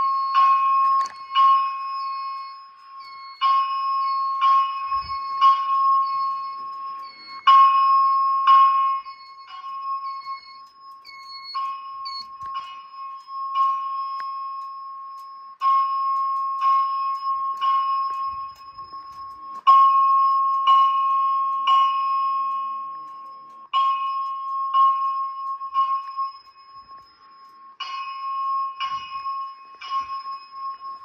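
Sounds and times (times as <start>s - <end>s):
bell-like alarm chime strikes: 0.0s - 31.0s
steady high alarm tone: 0.0s - 31.0s.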